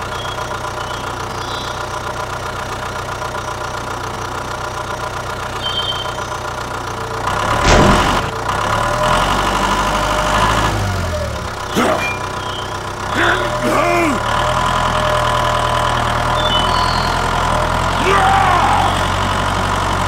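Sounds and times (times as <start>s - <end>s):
tractor engine idling and revving: 0.0s - 20.0s.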